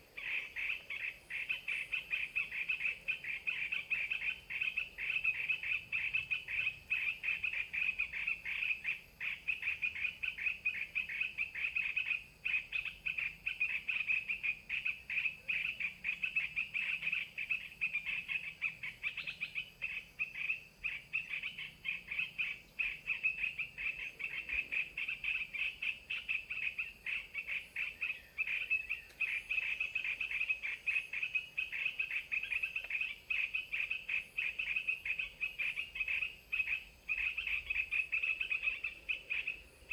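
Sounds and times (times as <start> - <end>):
chorus of animals chirping: 0.0 - 39.9.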